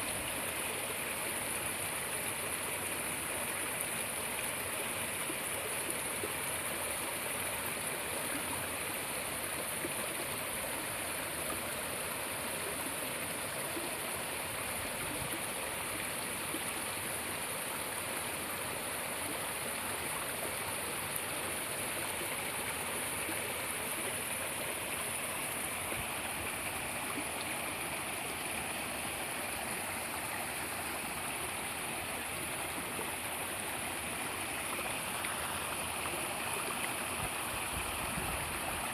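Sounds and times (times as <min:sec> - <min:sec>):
water rushing over rocks: 0:00.1 - 0:38.9.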